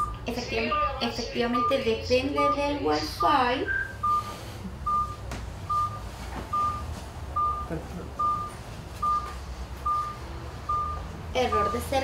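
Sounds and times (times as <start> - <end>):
heart monitor beeps: 0.0 - 11.9.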